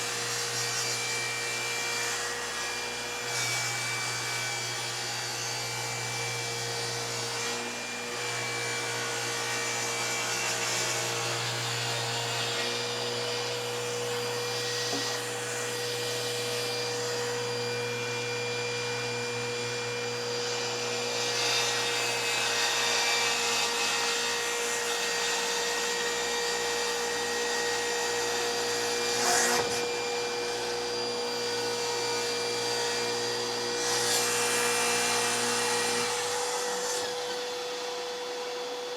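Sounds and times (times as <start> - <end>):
table saw cutting plywood: 0.0 - 38.9.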